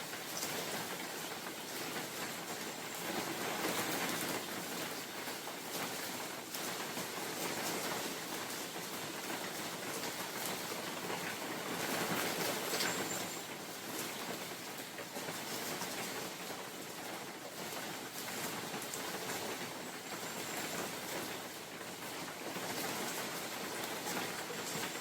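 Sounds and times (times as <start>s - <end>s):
rain falling in forest: 0.0s - 25.0s
ticks of raindrops: 0.0s - 25.0s
wind: 0.0s - 25.0s.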